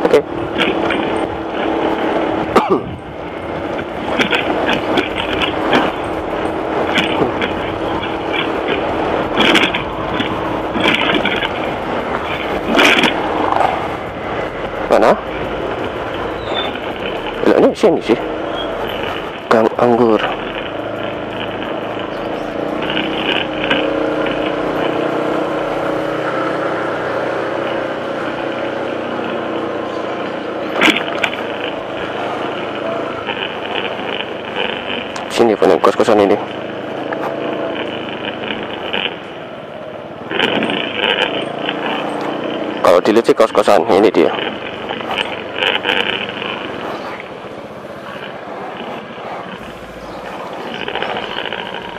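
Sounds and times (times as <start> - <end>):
road rumble: 0.0 - 51.9
scooter engine hum: 0.0 - 51.9
wind rushing over microphone: 0.0 - 51.9
scooter bumps: 0.4 - 51.9.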